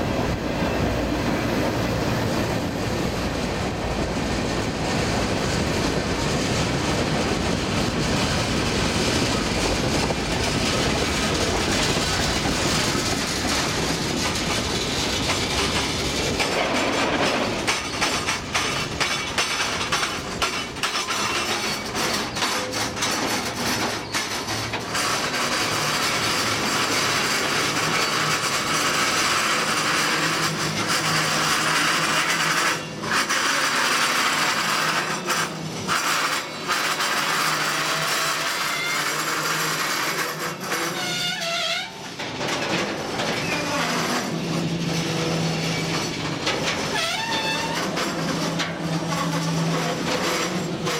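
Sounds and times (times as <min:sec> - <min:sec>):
locomotive engine rumble: 0:00.0 - 0:50.9
wheels clicking over track: 0:01.6 - 0:50.9.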